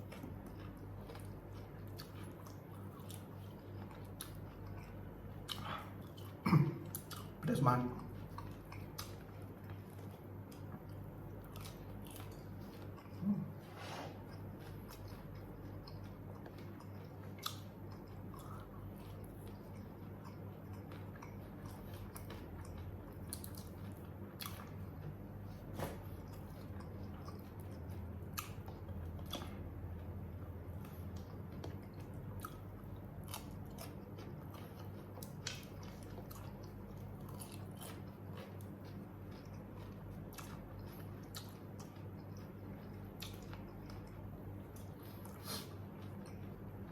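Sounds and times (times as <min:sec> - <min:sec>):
person chewing crunchy food: 0:00.0 - 0:46.9
steady low hum: 0:00.0 - 0:46.9.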